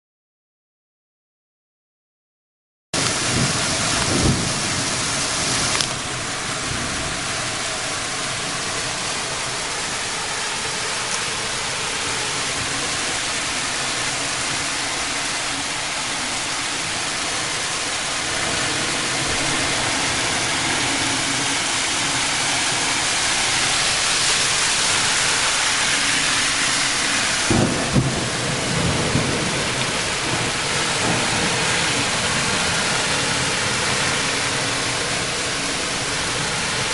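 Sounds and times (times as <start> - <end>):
heavy rain pouring: 3.0 - 36.9.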